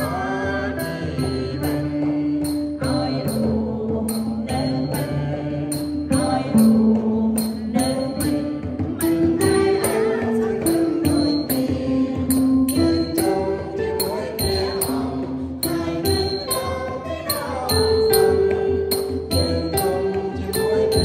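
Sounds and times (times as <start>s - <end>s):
group singing a hymn: 0.0s - 21.0s
jingling percussion beat: 0.0s - 21.0s.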